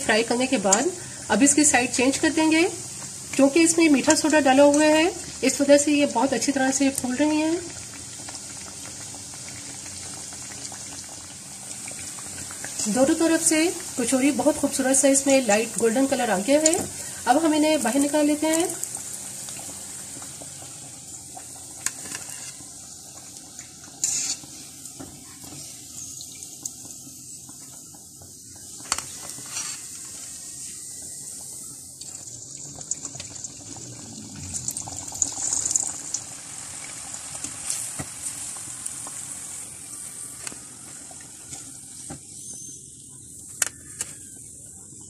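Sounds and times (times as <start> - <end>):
deep-frying sizzle in oil: 0.0 - 45.0.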